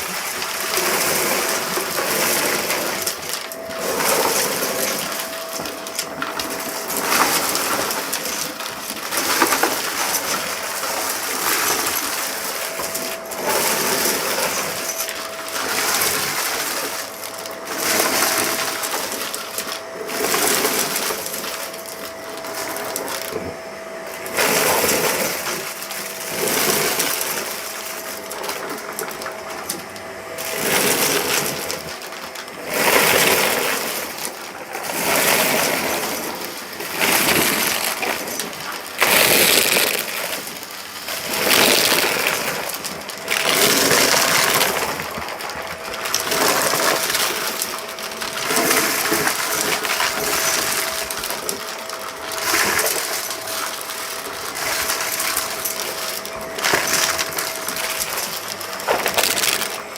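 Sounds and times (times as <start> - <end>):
debris crunching and rattling: 0.0 - 59.9
vacuum cleaner motor whine: 0.0 - 59.9.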